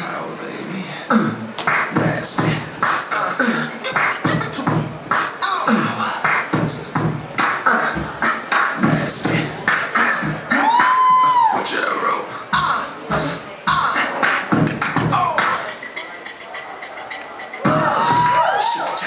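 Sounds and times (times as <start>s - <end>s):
hip hop beat: 1.1s - 11.6s, 12.4s - 19.0s.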